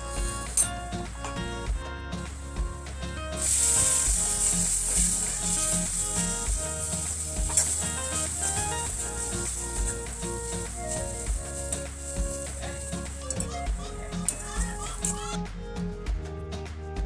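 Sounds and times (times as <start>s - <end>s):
food sizzling in hot oil: 0.0s - 15.4s
background music: 0.0s - 17.0s.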